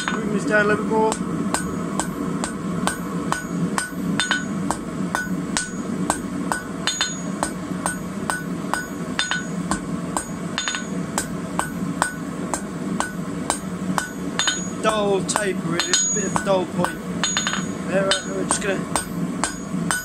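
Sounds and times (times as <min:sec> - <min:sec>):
hammer striking hot metal on anvil: 0:00.0 - 0:00.4, 0:01.1 - 0:20.0.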